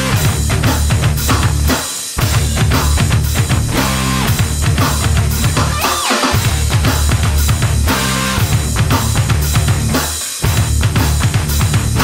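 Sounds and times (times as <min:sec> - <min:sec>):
drum kit beat: 0:00.0 - 0:12.0.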